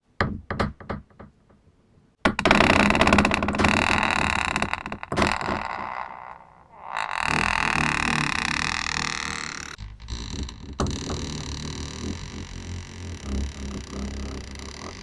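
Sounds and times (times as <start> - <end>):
door hinge creaking: 2.3 - 15.0.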